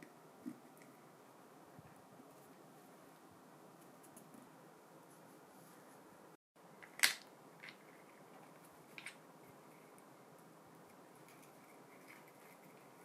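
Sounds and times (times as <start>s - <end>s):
low steady hiss: 0.0s - 13.0s.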